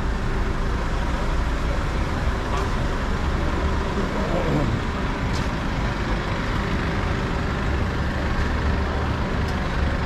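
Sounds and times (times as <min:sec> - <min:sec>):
heavy vehicle engine rumbling: 0:00.0 - 0:10.0
street traffic: 0:00.0 - 0:10.0.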